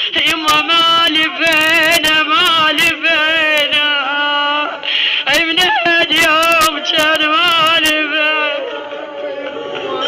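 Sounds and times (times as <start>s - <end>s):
woman singing wordless lament: 0.0s - 9.2s.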